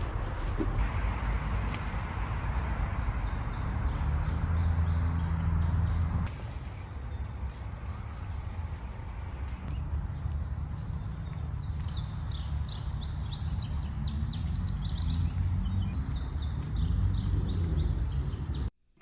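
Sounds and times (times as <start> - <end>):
songbird chirping: 2.4 - 18.7.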